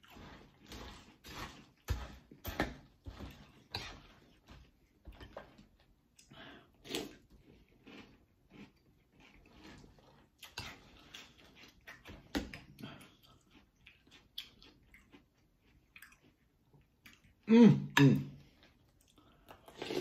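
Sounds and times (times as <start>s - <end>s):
chewing cereal: 0.0s - 17.5s, 18.4s - 20.0s.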